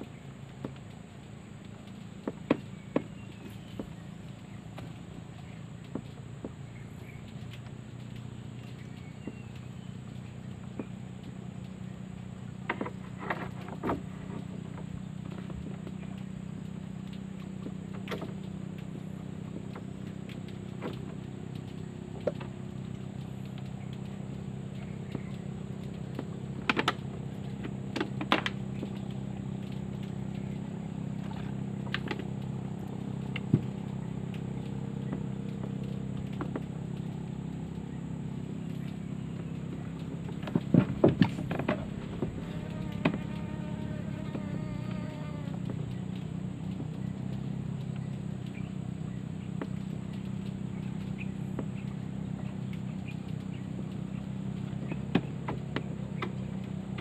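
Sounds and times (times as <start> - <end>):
boat engine drone: 0.0 - 57.0.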